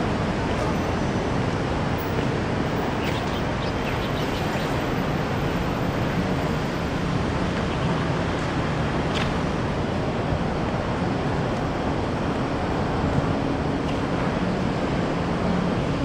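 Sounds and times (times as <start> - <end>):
steady outdoor background rush: 0.0 - 16.0.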